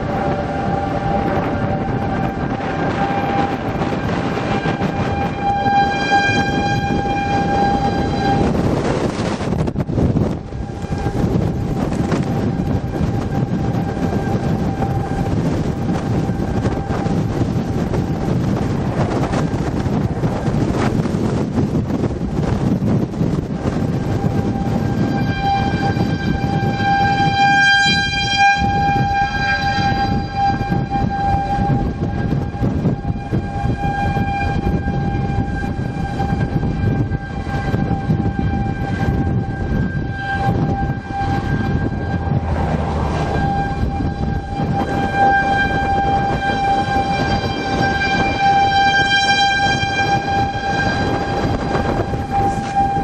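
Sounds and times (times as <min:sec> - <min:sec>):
warning siren steady tone: 0:00.0 - 0:53.0
wind noise: 0:00.0 - 0:53.0.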